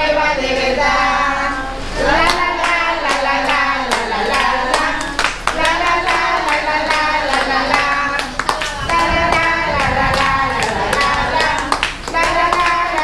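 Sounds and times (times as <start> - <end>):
hands clapping in rhythm: 2.1 - 13.0.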